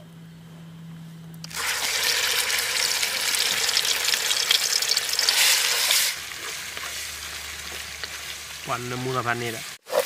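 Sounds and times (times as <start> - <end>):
food sizzling in hot oil: 1.5 - 9.8.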